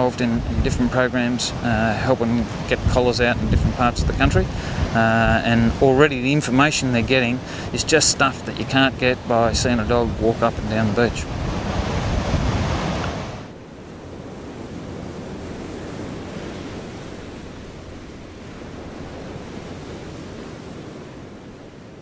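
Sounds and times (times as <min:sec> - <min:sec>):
ocean surf washing on sand: 0:00.0 - 0:22.0.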